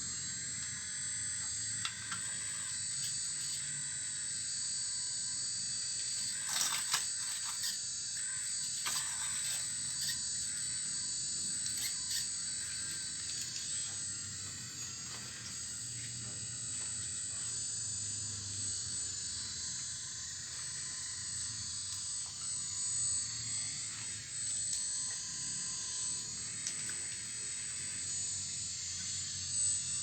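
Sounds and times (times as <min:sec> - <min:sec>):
high-pitched motor whine: 0:00.0 - 0:30.0.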